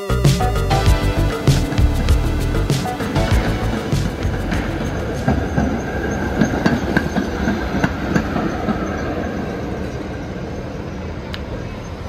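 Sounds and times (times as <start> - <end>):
streetcar rumble: 0.0 - 12.0
streetcar wheels clicking on rail joints: 1.8 - 12.0.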